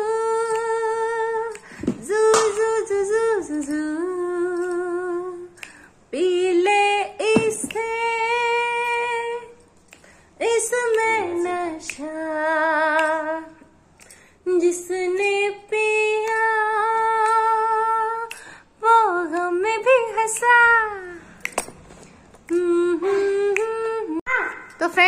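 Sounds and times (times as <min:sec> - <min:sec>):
woman singing unaccompanied: 0:00.0 - 0:09.6, 0:10.4 - 0:13.7, 0:14.4 - 0:21.4, 0:22.4 - 0:24.3.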